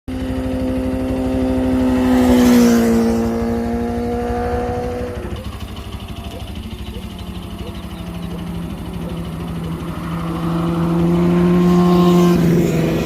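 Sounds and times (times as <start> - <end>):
motorcycle engine passing by: 0.1 - 13.0.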